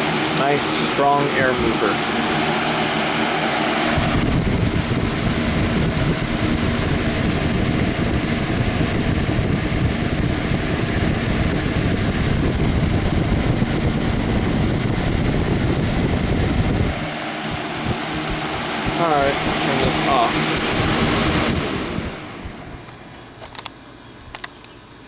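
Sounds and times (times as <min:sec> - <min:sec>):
wind buffeting microphone: 0:00.0 - 0:23.0
box fan running: 0:00.0 - 0:25.0.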